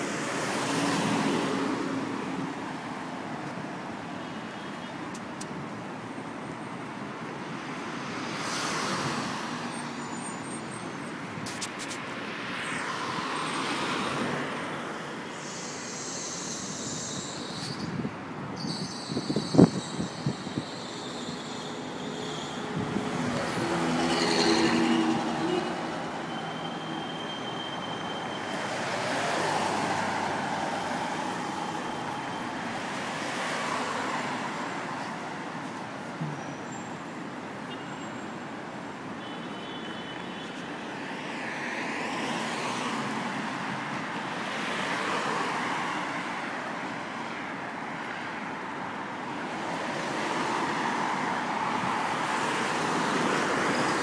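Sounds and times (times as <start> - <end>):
steady traffic rush: 0.0 - 54.0
vehicles passing: 0.0 - 54.0.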